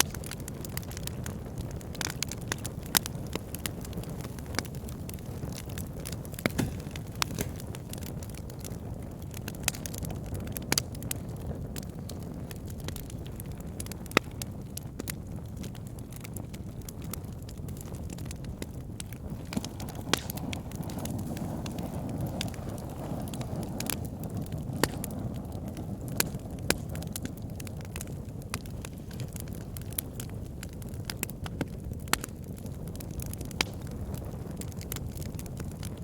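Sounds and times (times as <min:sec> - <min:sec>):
burning wood crackling and popping: 0:00.0 - 0:36.0
fire flames rumbling: 0:00.0 - 0:36.0.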